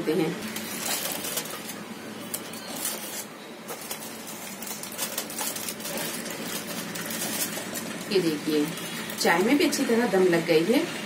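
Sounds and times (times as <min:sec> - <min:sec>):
aluminium foil crinkling: 0:00.4 - 0:10.0.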